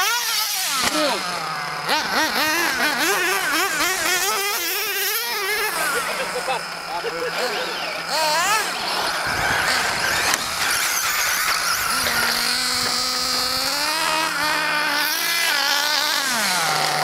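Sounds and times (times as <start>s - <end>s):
rc car motor whining: 0.0s - 17.0s.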